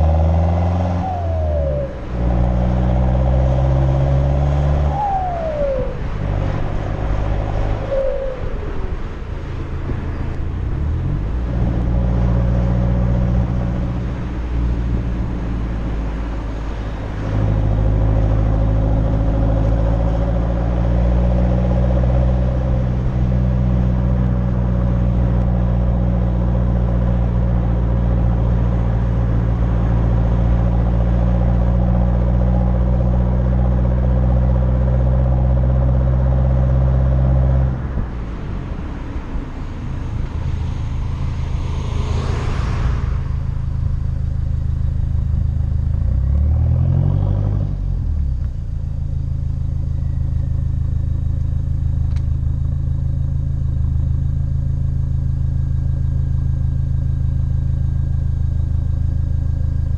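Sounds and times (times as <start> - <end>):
car exhaust while driving: 0.0 - 59.9.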